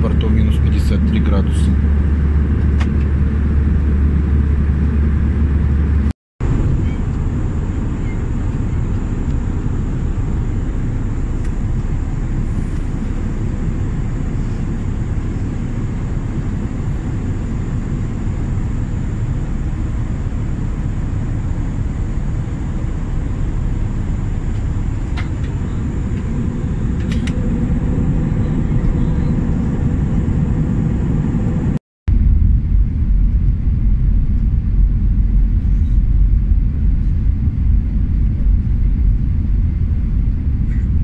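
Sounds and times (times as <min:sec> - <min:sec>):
airplane cabin engine roar: 0:00.0 - 0:41.0.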